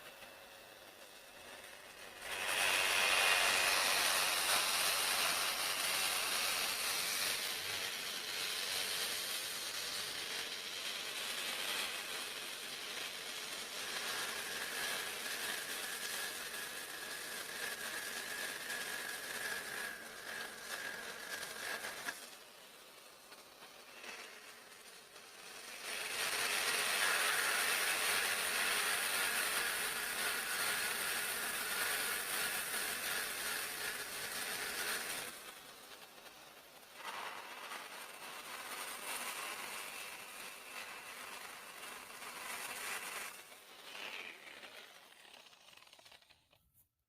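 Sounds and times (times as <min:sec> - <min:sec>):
reciprocating saw cutting wood: 0:00.0 - 0:46.5.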